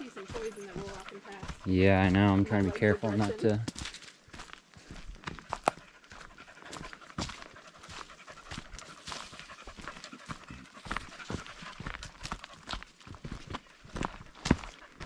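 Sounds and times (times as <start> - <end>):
dog panting: 0.0 - 3.7, 4.9 - 15.0
footsteps on a trail: 0.0 - 15.0.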